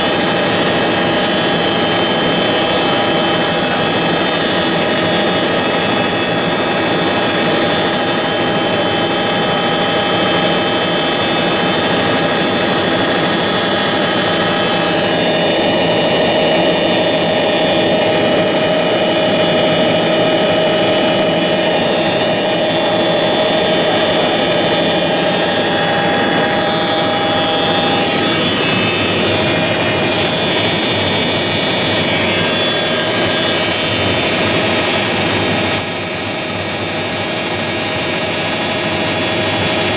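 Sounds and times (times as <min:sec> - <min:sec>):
helicopter engine and rotor noise: 0:00.0 - 0:39.9
high whine: 0:00.0 - 0:39.9.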